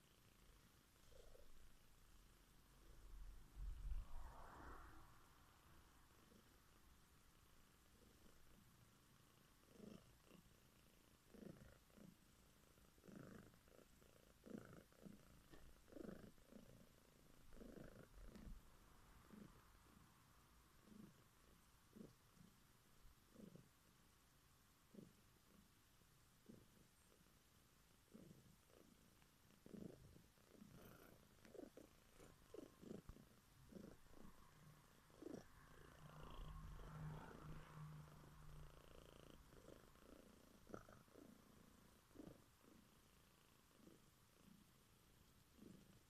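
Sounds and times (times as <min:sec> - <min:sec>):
cat purring faintly: 0:00.0 - 0:46.0.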